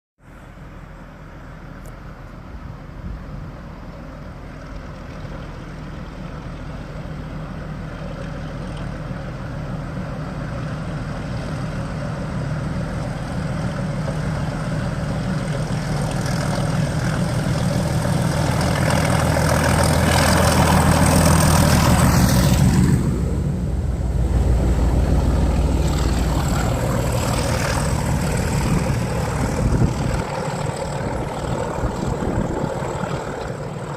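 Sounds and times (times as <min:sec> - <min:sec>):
diesel locomotive engine: 0:00.2 - 0:33.9.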